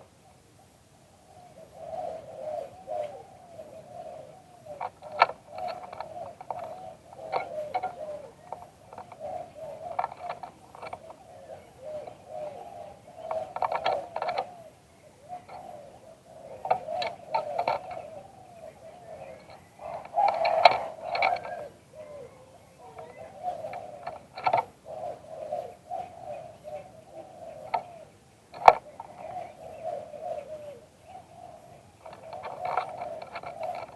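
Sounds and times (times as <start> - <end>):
dove cooing: 1.3 - 33.9.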